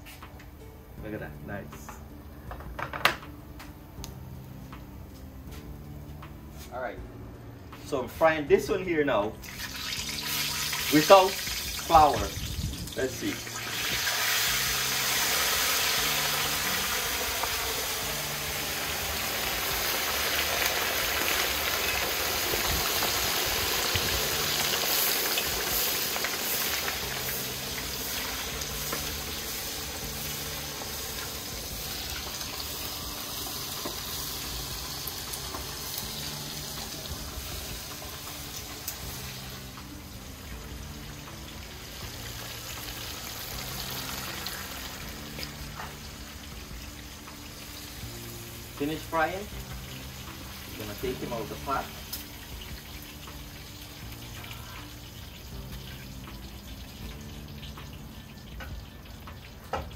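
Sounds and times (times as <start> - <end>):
fish sizzling in hot oil: 9.4 - 59.9.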